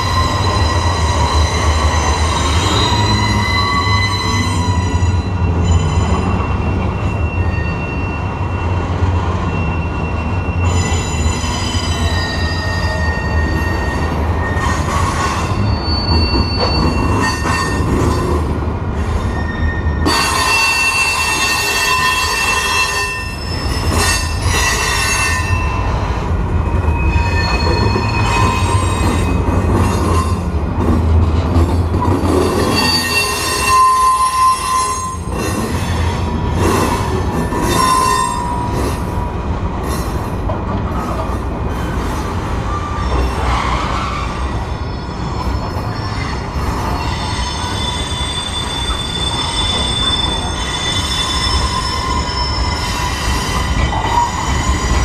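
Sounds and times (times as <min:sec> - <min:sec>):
high-pitched wheel squeal: 0:00.0 - 0:18.4, 0:19.1 - 0:30.5, 0:32.2 - 0:39.0, 0:42.6 - 0:55.0
train wheels rumbling on rail: 0:00.0 - 0:55.0.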